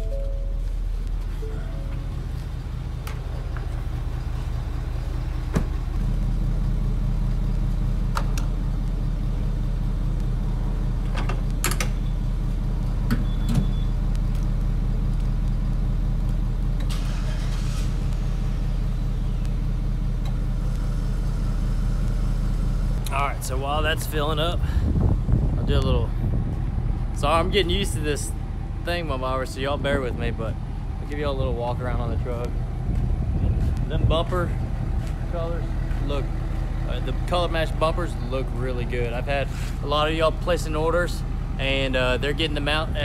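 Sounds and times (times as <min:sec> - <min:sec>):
fuel pump drone: 0:00.0 - 0:43.0.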